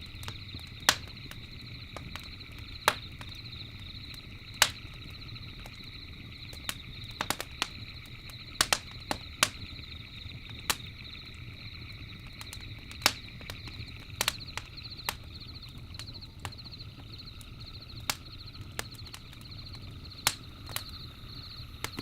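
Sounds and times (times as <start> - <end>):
campfire crackling: 0.0 - 22.0
night insects chirping: 0.0 - 22.0.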